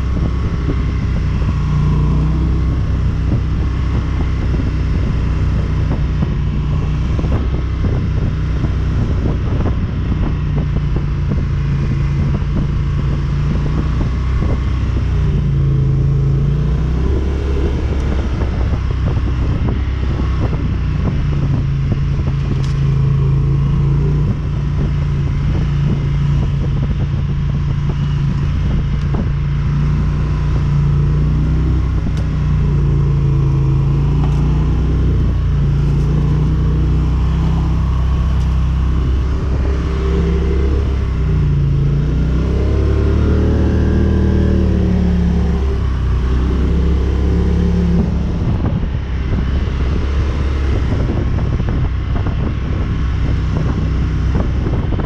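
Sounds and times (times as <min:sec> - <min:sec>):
quad engine running: 0:00.0 - 0:55.0.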